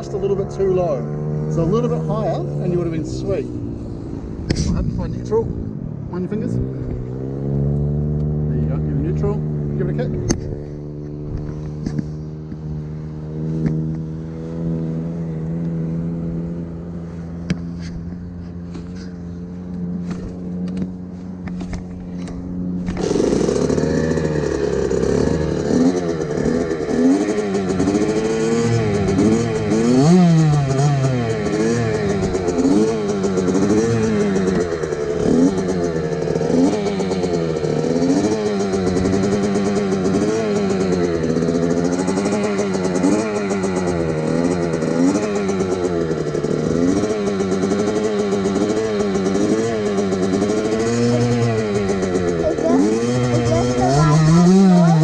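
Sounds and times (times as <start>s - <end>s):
motorbike engine idling and revving: 0.0s - 55.0s.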